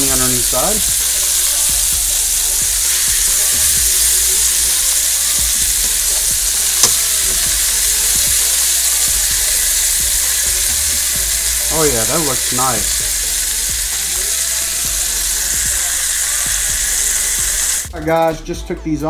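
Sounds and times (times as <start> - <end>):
chicken sizzling in butter: 0.0 - 17.9.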